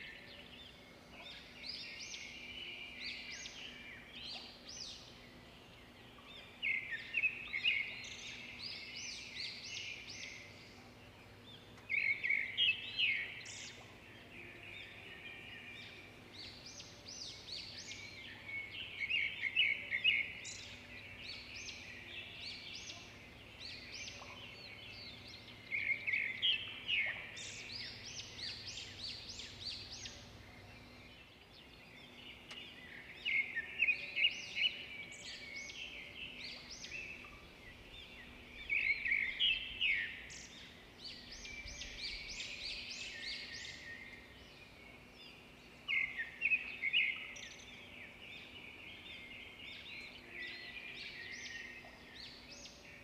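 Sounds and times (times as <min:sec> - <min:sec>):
birds chirping and twittering: 0:00.0 - 0:53.0.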